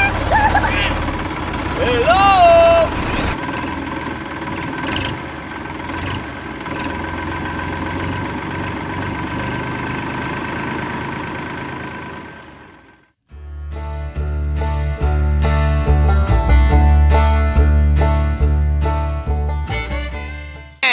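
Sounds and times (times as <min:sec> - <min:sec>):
engine rumbling: 0:00.0 - 0:20.9.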